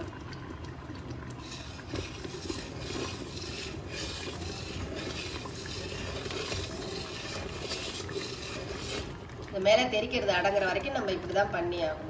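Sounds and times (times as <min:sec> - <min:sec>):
thick mixture bubbling and spluttering: 0:00.0 - 0:12.0.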